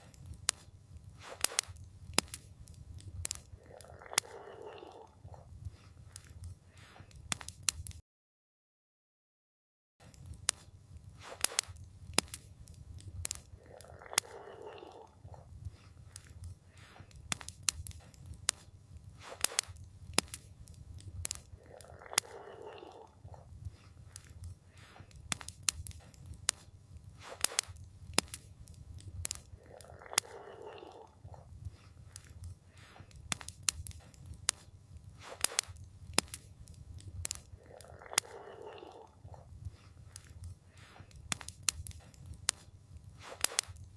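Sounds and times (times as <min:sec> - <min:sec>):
campfire crackling: 0:00.0 - 0:08.0, 0:10.0 - 0:43.9
low rumble of flames: 0:00.0 - 0:08.0, 0:10.1 - 0:43.9.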